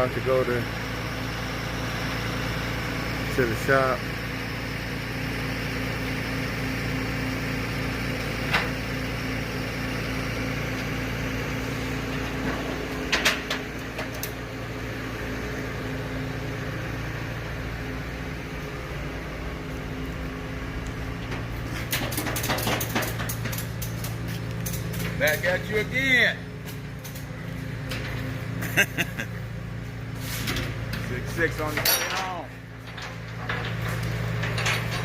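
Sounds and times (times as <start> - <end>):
vehicle engine droning: 0.0 - 31.8.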